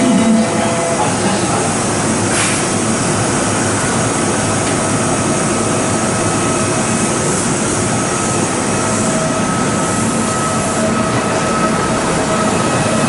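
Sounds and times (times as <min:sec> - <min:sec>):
electric train pulling away: 0:00.0 - 0:13.0.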